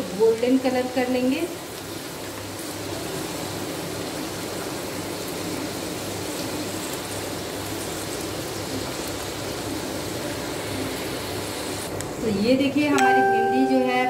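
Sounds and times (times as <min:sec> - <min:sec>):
oil sizzling while deep-frying: 0:00.0 - 0:14.0.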